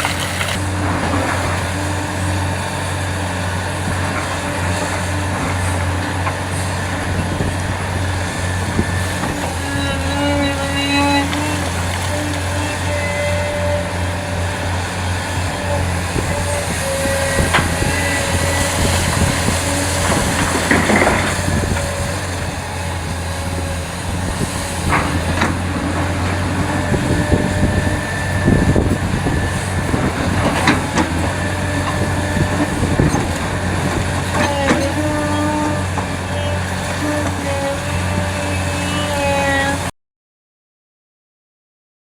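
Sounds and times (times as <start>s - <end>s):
diesel engine hum: 0.0s - 39.9s.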